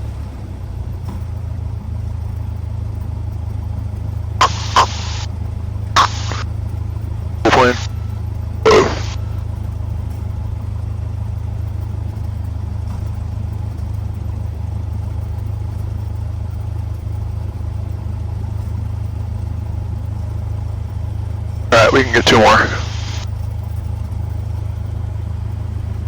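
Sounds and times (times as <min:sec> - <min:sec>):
light aircraft engine humming: 0:01.6 - 0:26.0.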